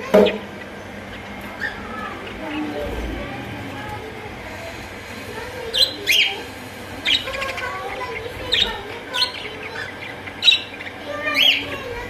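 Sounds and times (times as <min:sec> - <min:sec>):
budgerigars chirping: 0:00.1 - 0:03.3, 0:04.7 - 0:12.0.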